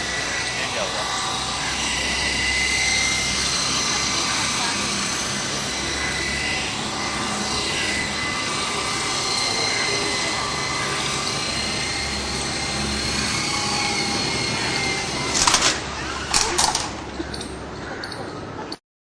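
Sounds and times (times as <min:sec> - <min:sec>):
high electric motor whine: 0:00.0 - 0:18.6
rotors whirring: 0:00.0 - 0:18.8.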